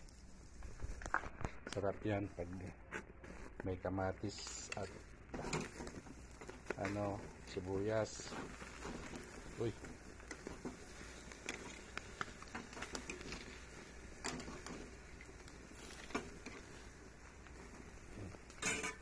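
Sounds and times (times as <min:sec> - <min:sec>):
meat sizzling on a grill: 0:01.8 - 0:19.0.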